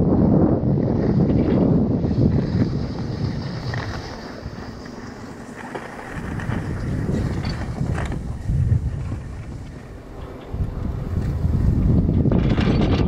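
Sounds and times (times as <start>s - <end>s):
wind buffeting microphone: 0.0s - 13.0s
skis sliding on snow: 0.8s - 12.0s.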